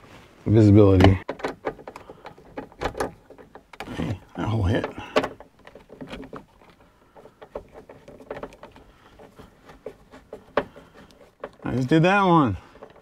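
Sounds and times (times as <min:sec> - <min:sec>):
hand handling noise: 0:00.0 - 0:13.0.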